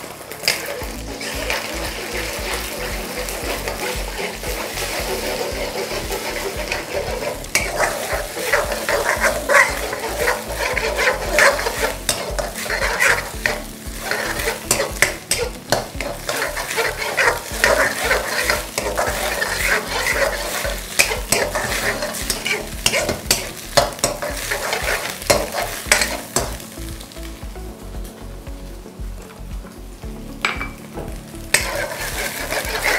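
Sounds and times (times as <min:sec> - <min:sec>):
eggs sizzling in hot oil: 0:00.0 - 0:32.9
spatula scraping pan: 0:00.3 - 0:26.7, 0:31.5 - 0:32.9.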